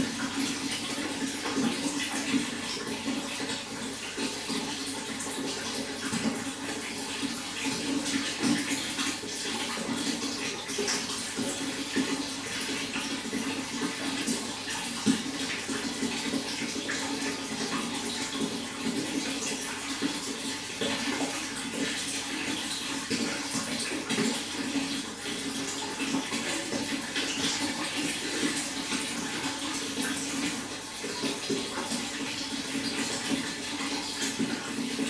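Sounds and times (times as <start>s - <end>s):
running water flowing: 0.0s - 35.0s
water splashes and drips: 0.0s - 35.0s.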